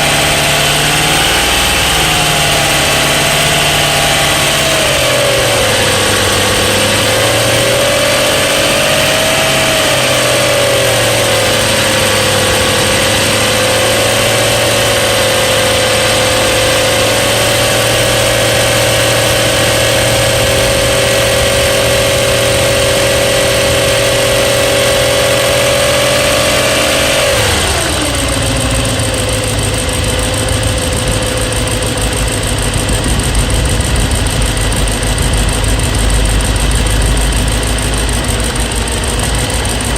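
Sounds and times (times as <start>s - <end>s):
car engine idling: 0.0s - 39.9s
engine ticking: 0.0s - 39.9s
high whine: 0.0s - 39.9s.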